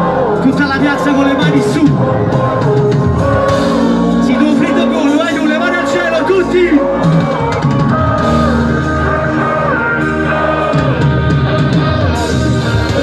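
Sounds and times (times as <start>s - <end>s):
live pop-rap song over pa: 0.0s - 13.0s.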